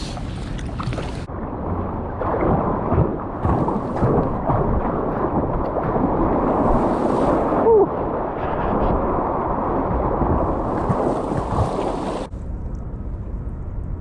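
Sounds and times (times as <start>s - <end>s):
choppy sea water: 0.0s - 12.3s.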